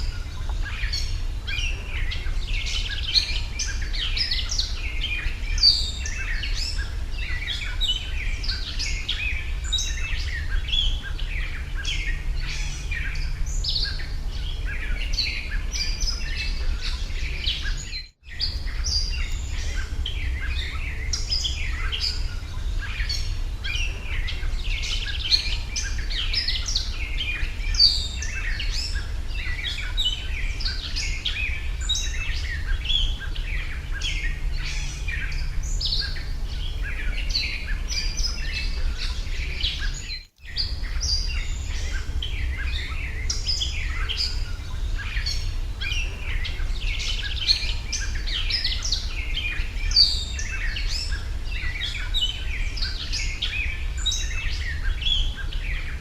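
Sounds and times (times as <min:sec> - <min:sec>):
many small birds chirping: 0:00.0 - 0:56.0
steady low hum: 0:00.0 - 0:56.0.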